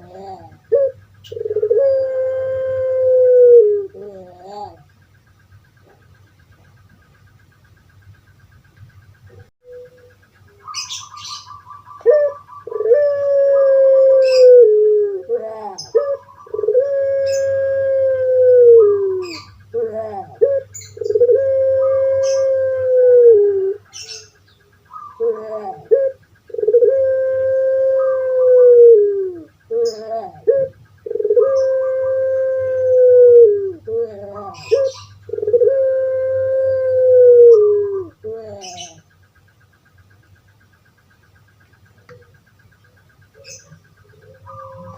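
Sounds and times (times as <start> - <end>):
dove cooing: 0.0 - 7.2, 9.2 - 40.2, 40.9 - 44.9.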